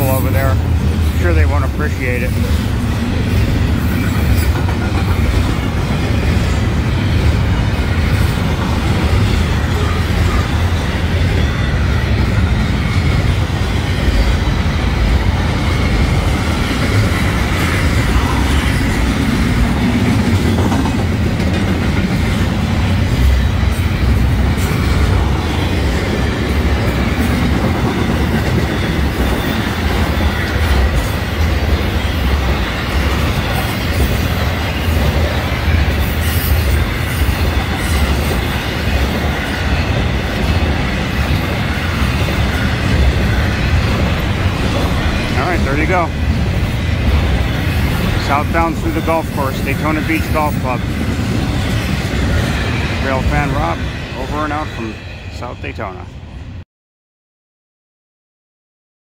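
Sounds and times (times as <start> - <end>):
freight train rumbling past: 0.0 - 56.6.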